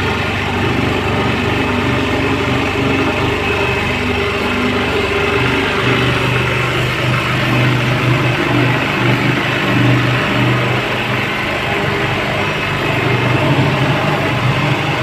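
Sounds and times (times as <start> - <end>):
road roller engine throbbing: 0.0 - 15.0.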